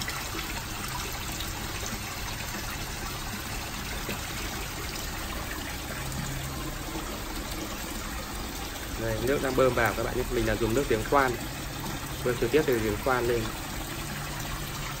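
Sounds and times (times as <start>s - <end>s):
water splashing into pond: 0.0s - 15.0s.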